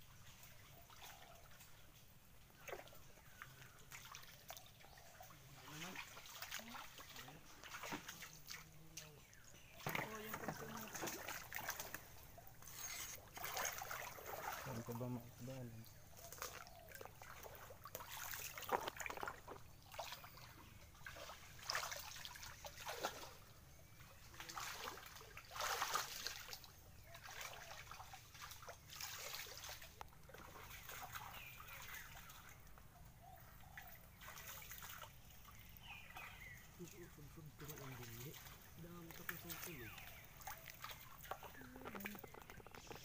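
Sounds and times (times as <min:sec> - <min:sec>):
people wading through water: 0:00.0 - 0:43.0.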